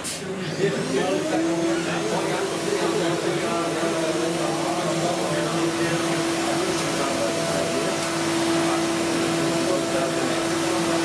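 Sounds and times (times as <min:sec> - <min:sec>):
milling machine spindle whine: 0:00.6 - 0:11.0.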